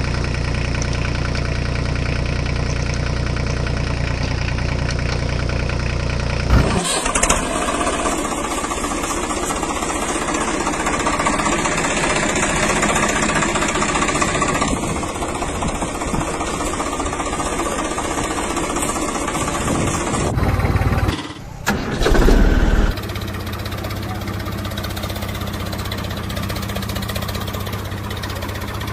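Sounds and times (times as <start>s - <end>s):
engine running: 0.0s - 28.9s.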